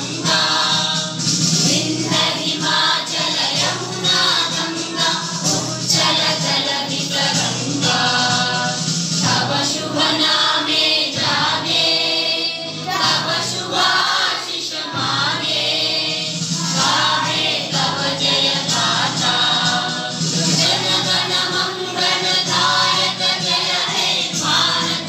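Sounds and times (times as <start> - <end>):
children singing in unison: 0.0 - 25.0.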